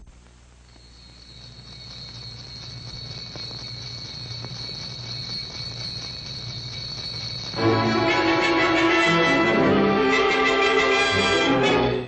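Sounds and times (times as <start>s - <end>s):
film hiss: 0.0s - 12.0s
high-pitched whine: 0.5s - 12.0s.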